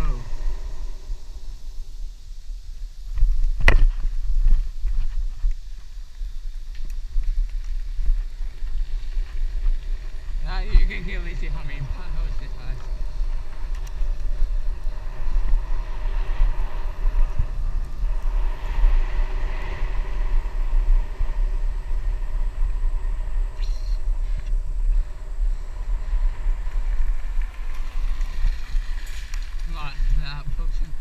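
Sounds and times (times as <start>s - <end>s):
wind buffeting microphone: 0.0s - 31.0s
tyres rolling on paved road: 4.0s - 31.0s.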